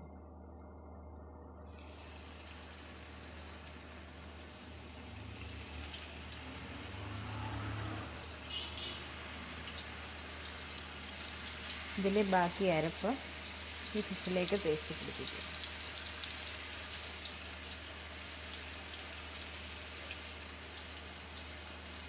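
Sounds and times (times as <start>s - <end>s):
fish sizzling in oil: 1.8s - 22.0s.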